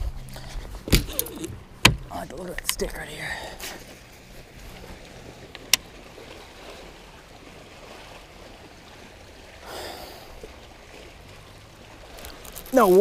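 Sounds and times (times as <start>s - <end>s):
lake water lapping: 0.0s - 13.0s.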